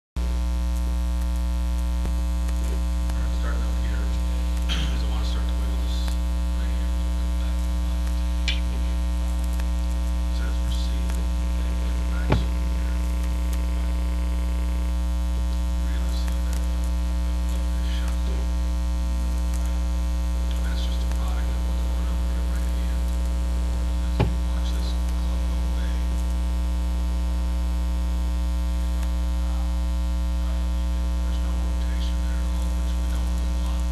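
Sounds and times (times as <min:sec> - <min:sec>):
electrical mains hum: 0:00.2 - 0:33.9.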